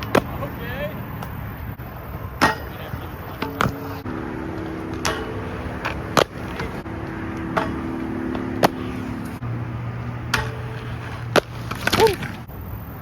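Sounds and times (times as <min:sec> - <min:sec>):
skateboard clacking on ground: 0:00.0 - 0:09.4, 0:10.2 - 0:12.6
skateboard wheels rolling: 0:00.0 - 0:13.0.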